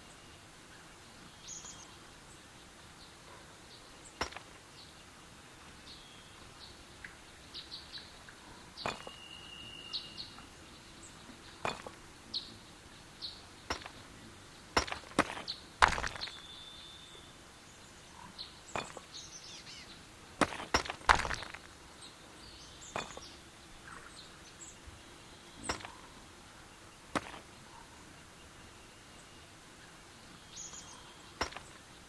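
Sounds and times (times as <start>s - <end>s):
small birds chirping faintly: 0.0s - 32.0s.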